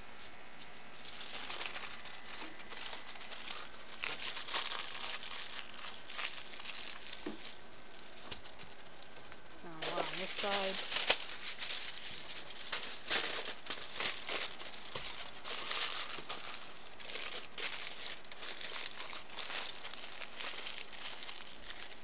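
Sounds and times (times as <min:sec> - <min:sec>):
aluminium foil crinkling: 0:00.2 - 0:22.0.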